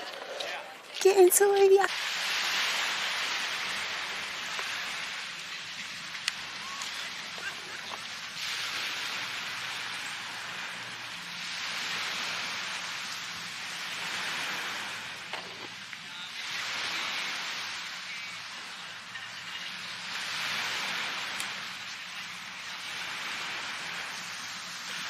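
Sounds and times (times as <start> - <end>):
surf washing onto beach: 0.0 - 25.0.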